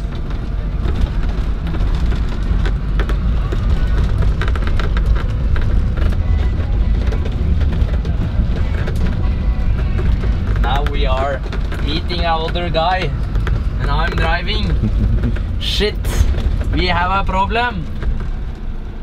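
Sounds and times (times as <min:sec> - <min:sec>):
van engine and tyres rumbling: 0:00.0 - 0:19.0.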